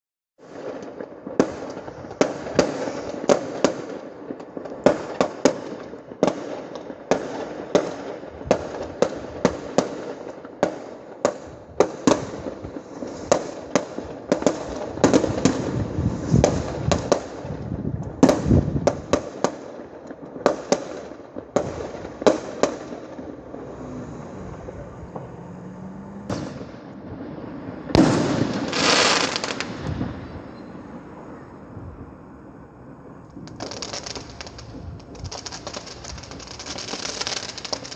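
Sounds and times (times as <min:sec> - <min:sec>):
fireworks banging: 0:00.4 - 0:37.9.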